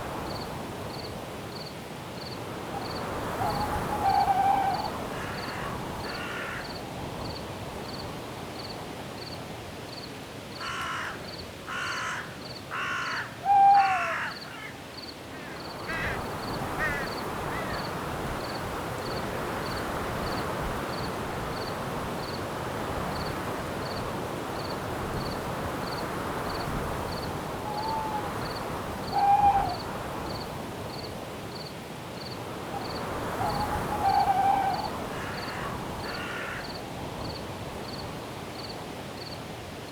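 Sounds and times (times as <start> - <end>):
wind-like hiss: 0.0 - 39.9
crickets chirping: 0.1 - 39.4.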